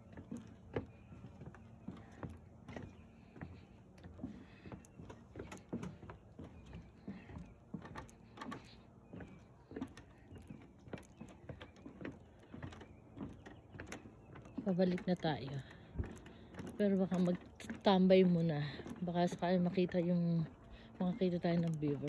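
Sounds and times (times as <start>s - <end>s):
footsteps on wooden boardwalk: 0.0s - 22.0s.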